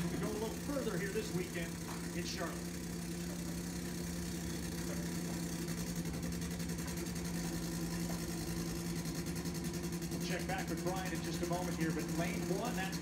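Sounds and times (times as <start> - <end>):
dragster engine idling: 0.0 - 13.0.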